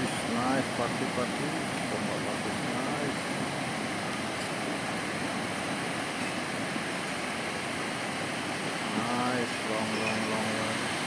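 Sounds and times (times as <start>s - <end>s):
ocean surf breaking on sand: 0.0s - 11.0s.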